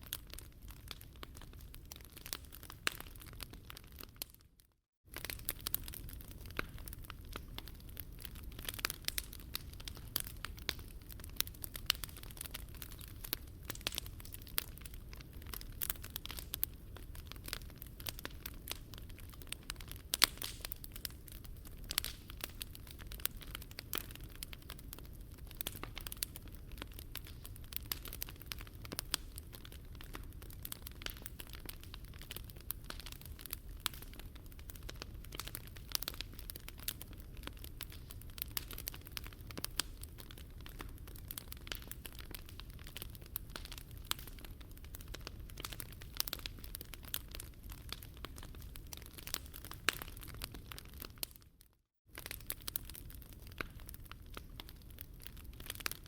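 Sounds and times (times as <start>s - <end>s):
campfire crackling and popping: 0.0s - 4.5s, 5.1s - 56.0s.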